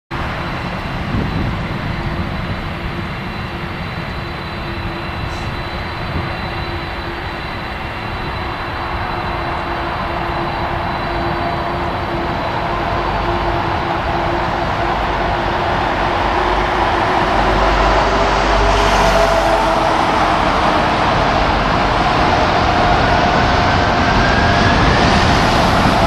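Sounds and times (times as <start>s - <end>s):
jet airliner taxiing: 0.1s - 26.0s.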